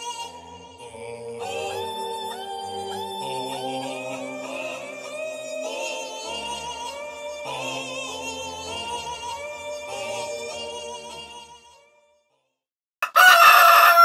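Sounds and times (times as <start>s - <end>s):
wavering sung melody: 0.0s - 11.5s.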